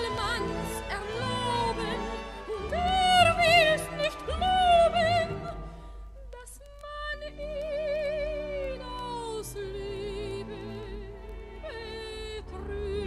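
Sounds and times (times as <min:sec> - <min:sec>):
operetta music on old record: 0:00.0 - 0:13.0.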